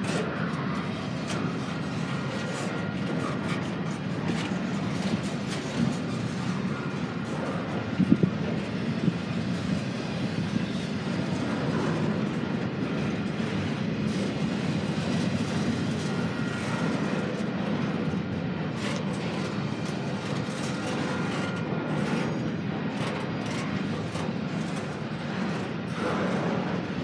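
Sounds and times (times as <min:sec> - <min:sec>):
steel wheels on rail: 0:00.0 - 0:27.0.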